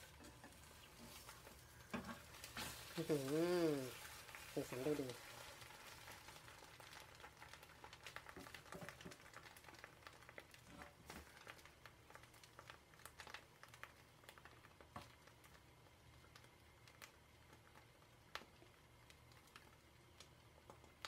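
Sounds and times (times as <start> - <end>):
omelette crackling in oil: 0.0 - 21.0.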